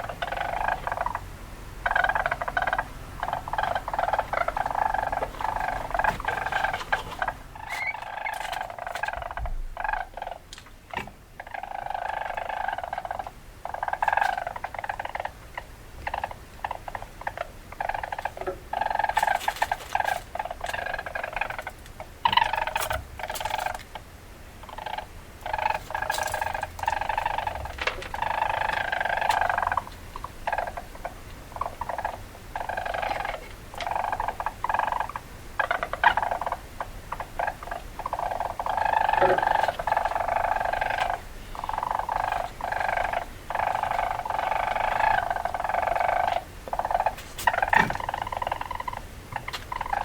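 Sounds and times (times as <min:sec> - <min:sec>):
weasel chattering trills: 0:00.0 - 0:50.0.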